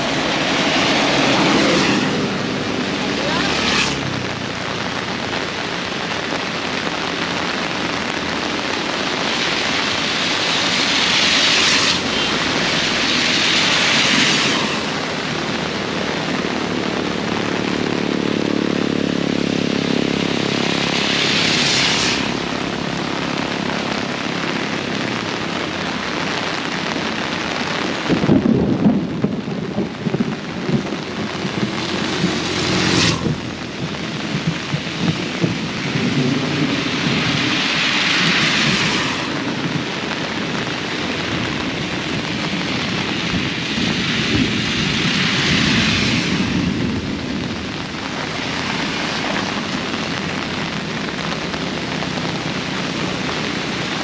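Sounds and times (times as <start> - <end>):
engine hum: 0.0 - 54.0
heavy rain pouring: 0.0 - 54.0
wind gusts: 0.0 - 54.0
thunder rumbling: 4.0 - 26.2, 27.9 - 54.0.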